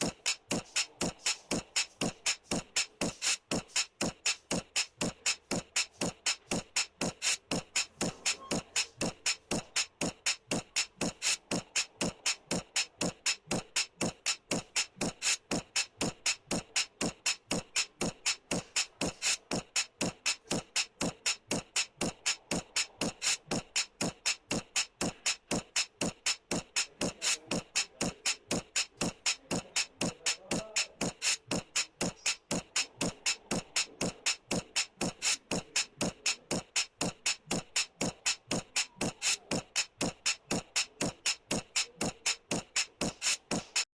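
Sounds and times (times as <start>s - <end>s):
fast clicking percussive beat: 0.0s - 43.9s.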